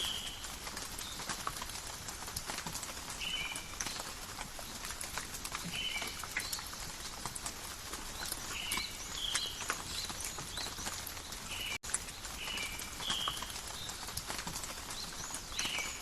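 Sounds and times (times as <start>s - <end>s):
rain dripping in forest: 0.0s - 16.0s.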